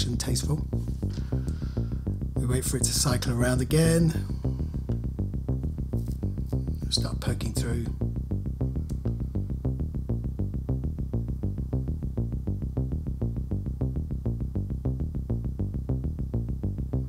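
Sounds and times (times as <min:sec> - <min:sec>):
fast sequence of low synth notes: 0:00.0 - 0:17.0.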